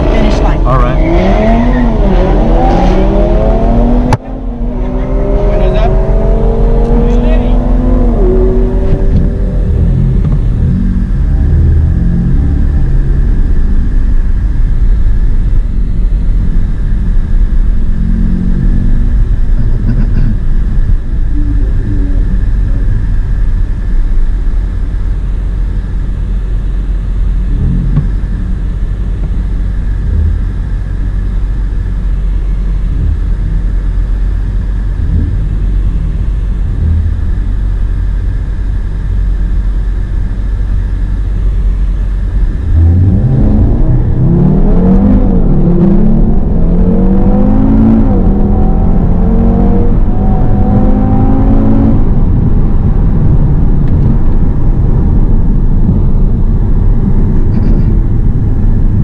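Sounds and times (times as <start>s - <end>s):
car engine revving: 0.0s - 59.0s
car engine rumbling inside cabin: 0.0s - 59.0s.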